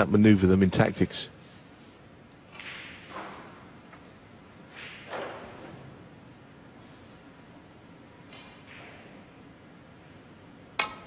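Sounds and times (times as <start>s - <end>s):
faint arena background noise: 0.0s - 11.0s.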